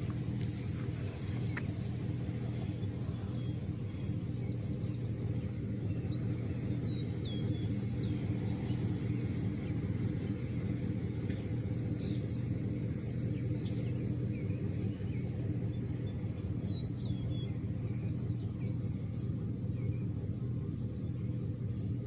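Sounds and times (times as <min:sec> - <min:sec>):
low rumbling hum: 0:00.0 - 0:22.0.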